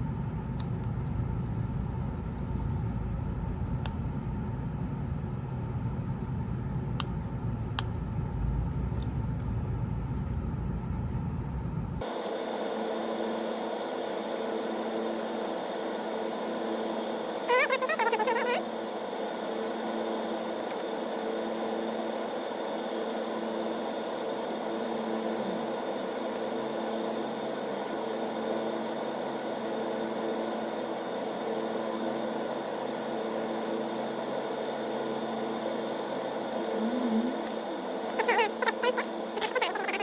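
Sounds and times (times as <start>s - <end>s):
motor hum and whirring: 0.0s - 40.0s.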